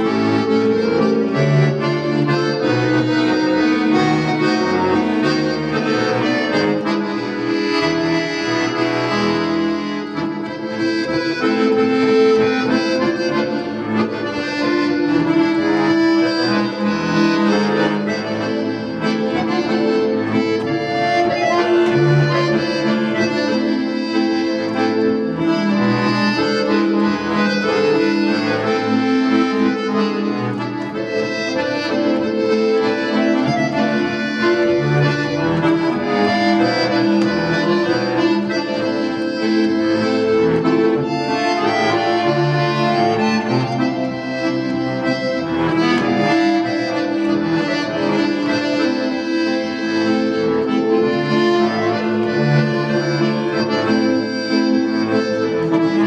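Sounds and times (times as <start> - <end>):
button accordion playing melody: 0.0 - 56.0.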